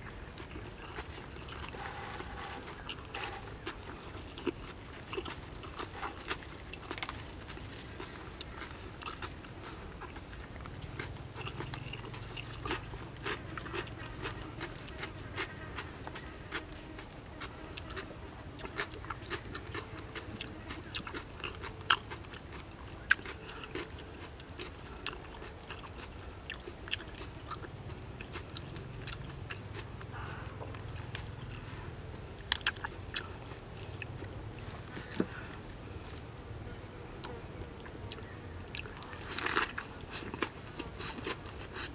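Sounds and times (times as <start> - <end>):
chewing and crunching lettuce: 0.0 - 41.9
low steady hum: 0.0 - 41.9.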